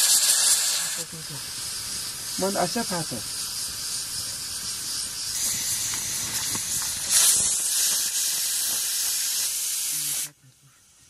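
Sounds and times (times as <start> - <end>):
wood fire hissing: 0.0 - 11.0
faint fire crackles: 0.1 - 11.0.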